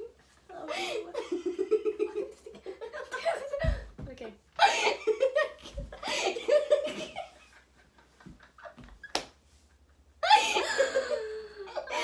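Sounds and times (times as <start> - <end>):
girls laughing: 0.0 - 3.9, 4.6 - 9.2, 10.2 - 12.0.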